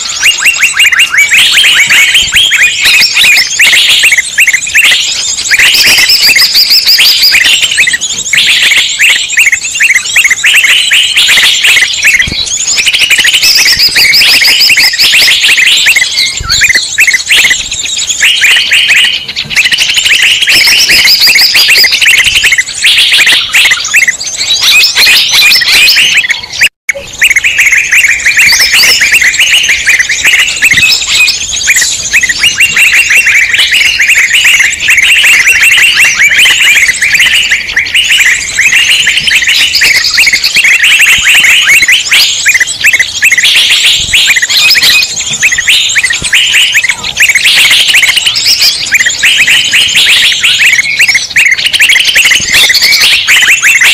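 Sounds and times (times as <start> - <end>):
many small birds chirping: 0.0 - 53.9.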